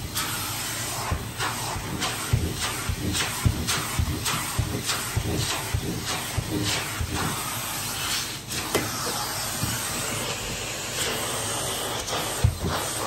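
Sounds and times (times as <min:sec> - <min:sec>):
vacuum cleaner suction hiss: 0:00.0 - 0:13.0.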